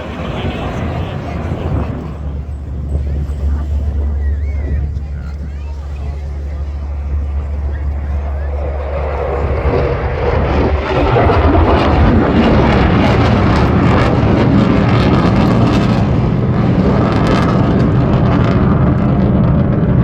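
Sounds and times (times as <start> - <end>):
aircraft engine roar: 0.0 - 20.0.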